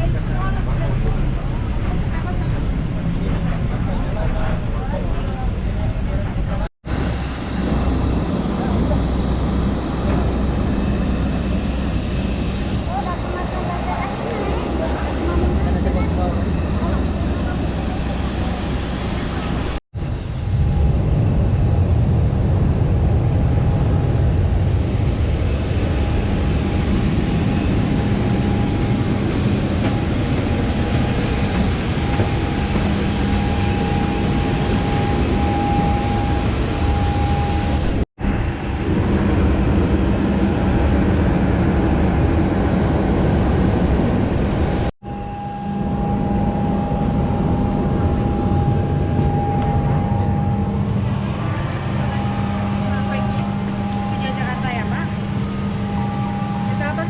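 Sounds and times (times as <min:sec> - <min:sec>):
aircraft engine whine and rumble: 0:00.0 - 0:57.0.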